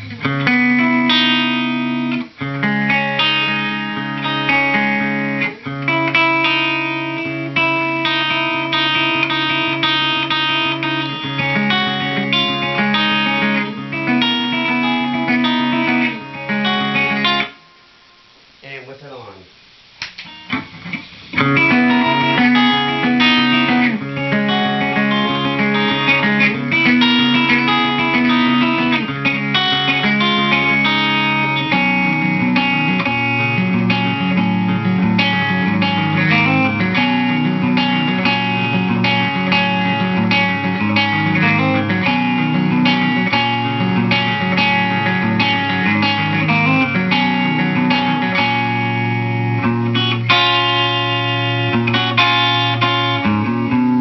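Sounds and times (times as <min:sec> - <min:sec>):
electric guitar chords and notes: 0:00.0 - 0:18.6, 0:19.9 - 0:54.0.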